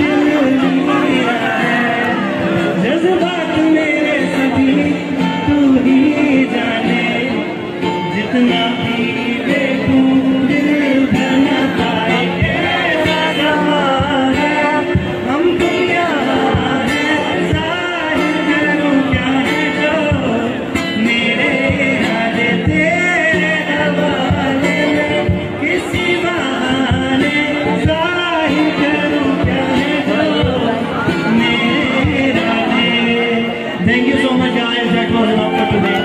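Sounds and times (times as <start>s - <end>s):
man singing through pa: 0.0s - 36.0s
instrumental accompaniment: 0.1s - 36.0s.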